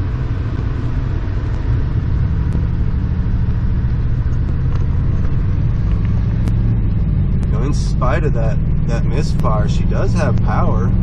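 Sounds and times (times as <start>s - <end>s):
misfiring car engine rumble: 0.0s - 11.0s
road noise: 0.0s - 11.0s.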